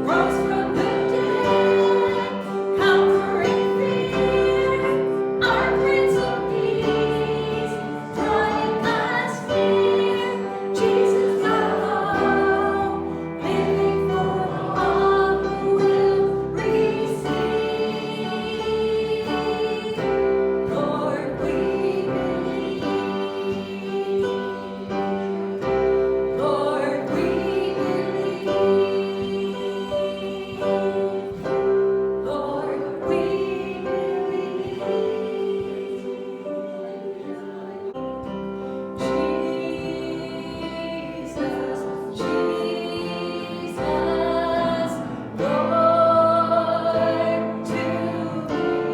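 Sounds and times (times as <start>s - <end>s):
group singing gospel song: 0.0s - 48.9s
instrumental accompaniment: 0.0s - 48.9s.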